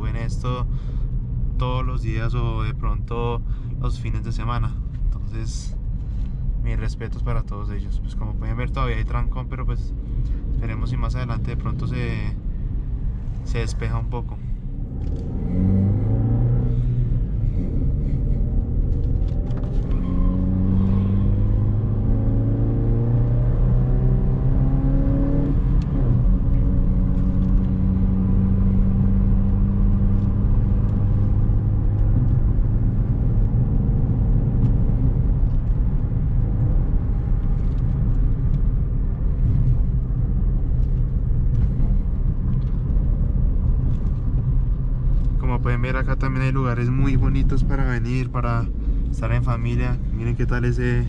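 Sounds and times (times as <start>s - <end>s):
car engine pulling uphill: 8.9s - 51.0s.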